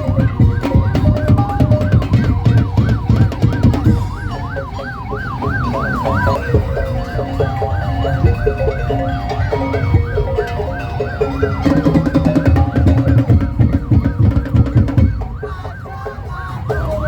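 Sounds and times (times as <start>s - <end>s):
heavy drumbeats: 0.0s - 17.0s
siren wailing: 0.0s - 17.0s.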